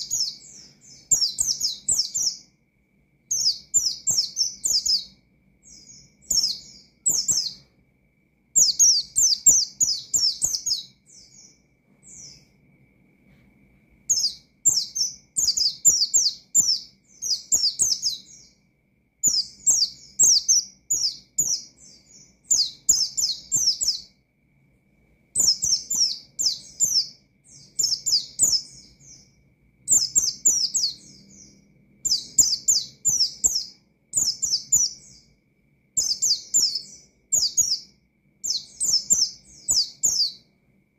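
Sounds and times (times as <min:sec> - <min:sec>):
bird chattering song: 0:00.0 - 0:02.6, 0:03.3 - 0:07.8, 0:08.6 - 0:12.5, 0:14.1 - 0:18.6, 0:19.2 - 0:24.2, 0:25.4 - 0:35.4, 0:36.0 - 0:40.5.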